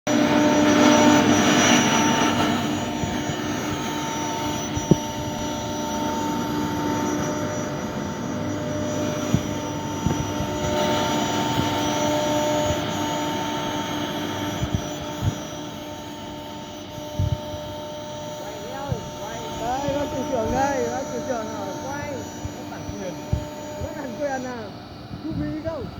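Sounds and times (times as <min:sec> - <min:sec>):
router machine whine and hum: 0:00.1 - 0:25.9.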